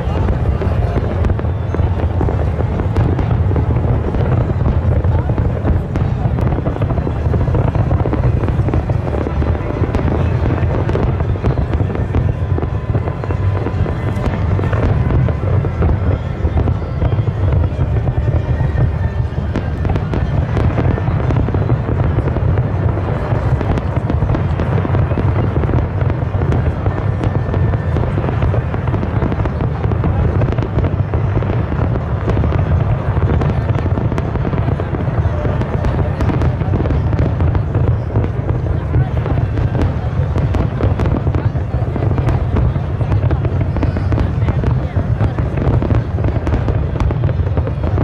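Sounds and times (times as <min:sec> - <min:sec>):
fireworks booming and crackling: 0:00.0 - 0:48.0.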